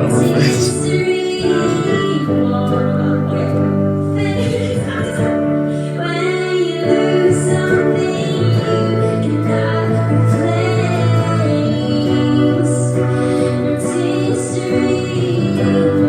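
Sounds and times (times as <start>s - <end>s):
pop song with woman singing: 0.0s - 16.0s.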